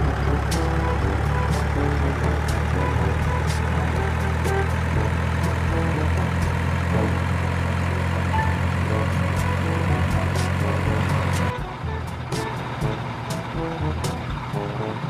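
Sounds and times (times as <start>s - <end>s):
heavy truck engine idling: 0.0s - 15.0s.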